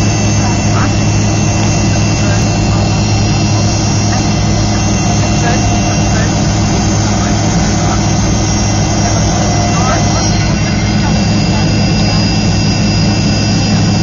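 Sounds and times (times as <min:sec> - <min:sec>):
high engine whine: 0:00.0 - 0:14.0
jet engines low rumble: 0:00.0 - 0:14.0.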